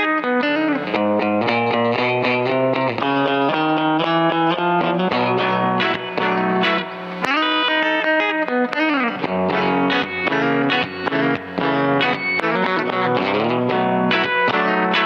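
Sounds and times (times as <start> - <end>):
electric guitar picked notes: 0.0 - 15.0.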